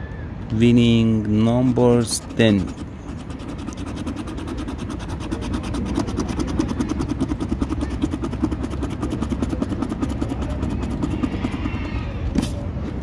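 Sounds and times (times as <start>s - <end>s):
coin scratching lottery ticket: 1.3s - 12.0s.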